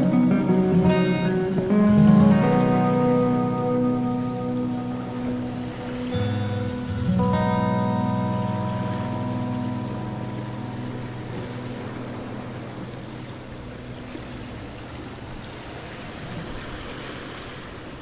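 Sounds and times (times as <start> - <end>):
background music: 0.0 - 15.3.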